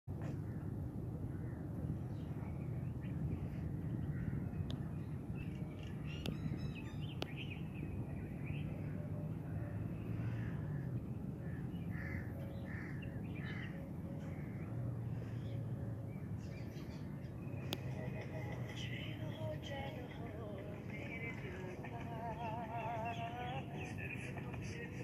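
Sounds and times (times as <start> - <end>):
steady low rumble: 0.1 - 23.4
birds calling: 0.2 - 25.0.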